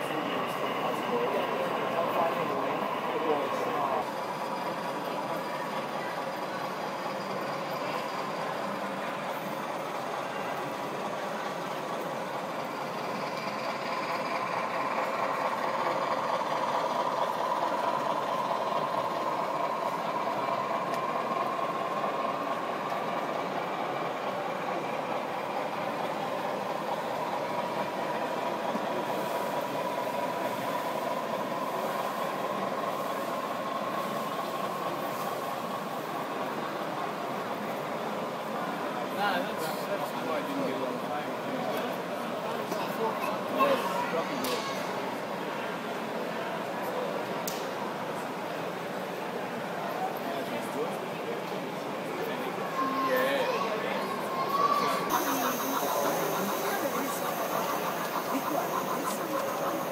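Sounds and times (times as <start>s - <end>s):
model train wheels on rails: 0.0s - 59.9s.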